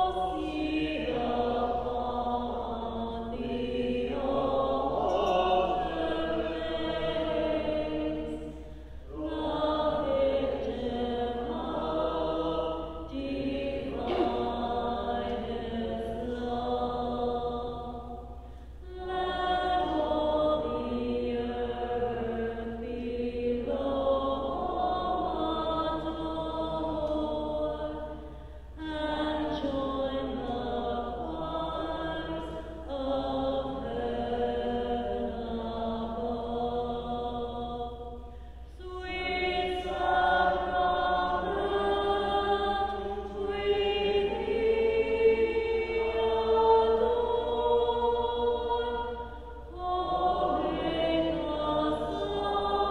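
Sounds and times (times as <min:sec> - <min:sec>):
hymn singing: 0:00.0 - 0:52.9.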